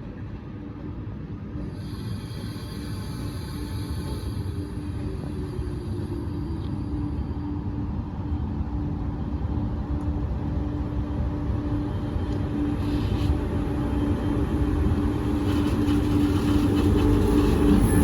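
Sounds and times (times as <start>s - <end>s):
steady hum: 0.0s - 18.0s
train rumbling: 0.0s - 18.0s.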